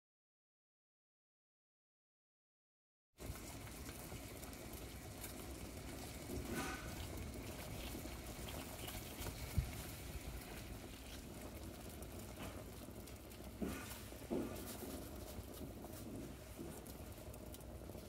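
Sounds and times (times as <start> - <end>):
water boiling in a pot: 3.2 - 18.0.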